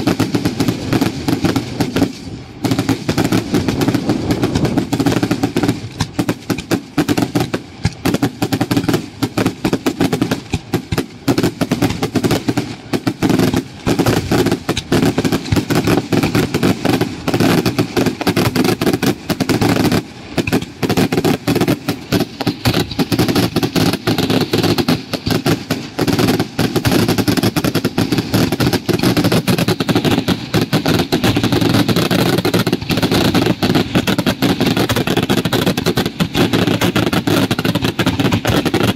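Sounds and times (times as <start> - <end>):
fireworks bangs and crackling: 0.0 - 38.9
steady high hiss: 0.0 - 38.9.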